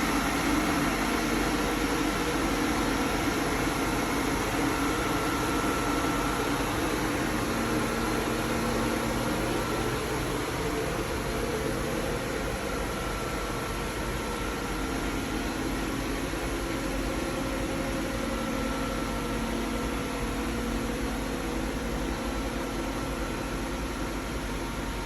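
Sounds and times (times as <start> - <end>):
boring mill machine hum: 0.0 - 25.0.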